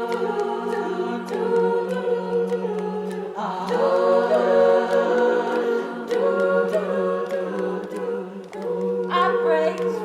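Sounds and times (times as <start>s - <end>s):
women singing a cappella chords: 0.0s - 10.0s.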